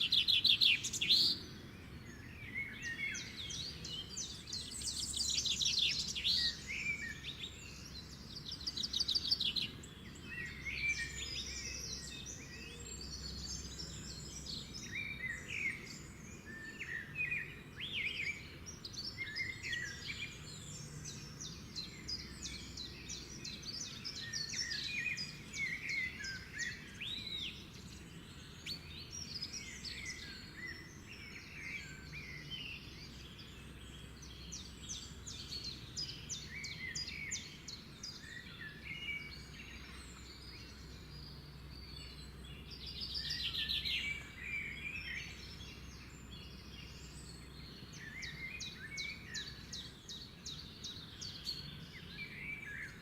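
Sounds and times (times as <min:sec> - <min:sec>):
birds chirping and trilling: 0:00.0 - 0:53.0
low background noise: 0:00.0 - 0:53.0.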